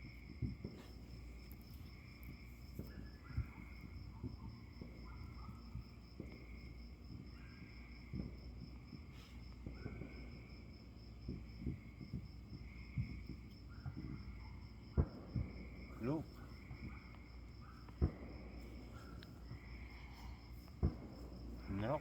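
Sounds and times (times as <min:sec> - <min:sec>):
crickets chirping: 0:00.0 - 0:22.0
insect low call: 0:00.0 - 0:22.0.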